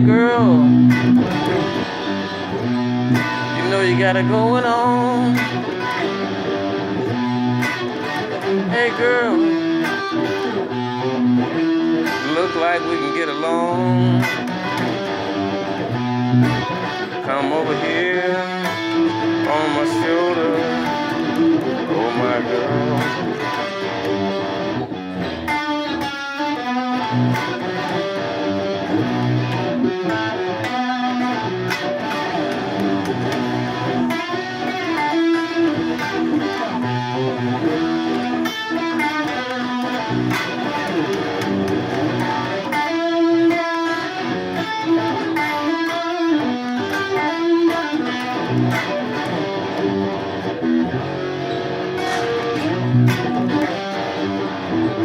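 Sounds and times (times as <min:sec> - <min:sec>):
guitar plucked and strummed: 0:00.0 - 0:55.0.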